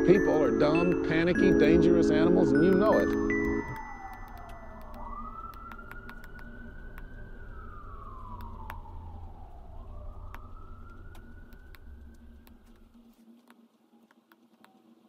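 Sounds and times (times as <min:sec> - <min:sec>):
distant siren wailing: 0:00.0 - 0:13.0.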